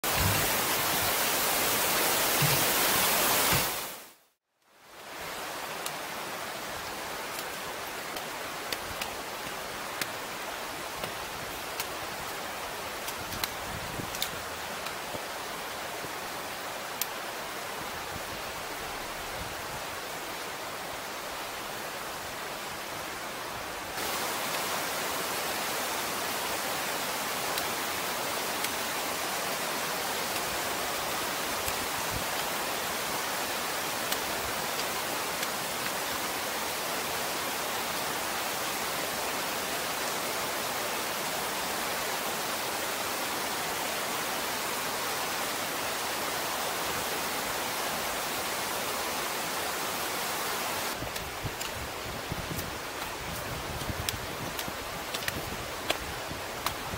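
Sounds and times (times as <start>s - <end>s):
creek and waterfalls rushing: 0.0s - 56.9s.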